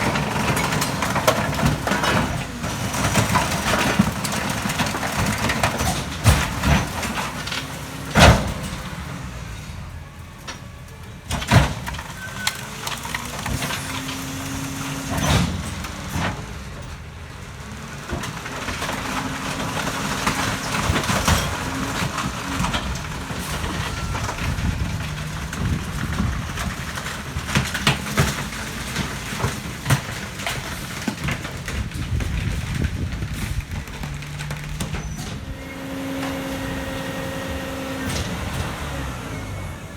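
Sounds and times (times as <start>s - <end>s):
garbage truck running: 0.0s - 39.9s.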